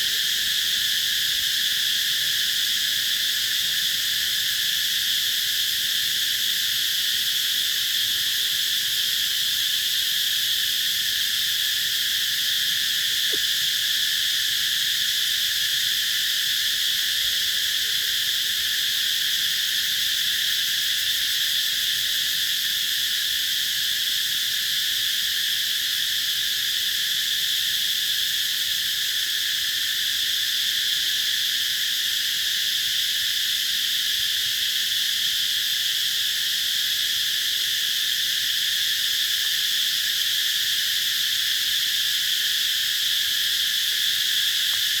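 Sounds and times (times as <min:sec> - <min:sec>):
cicadas buzzing: 0:00.0 - 0:45.0.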